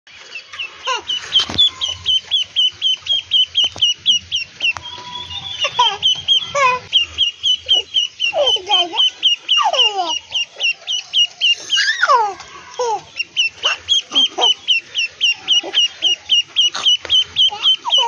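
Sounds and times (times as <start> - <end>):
duckling peeping: 0.2 - 18.0.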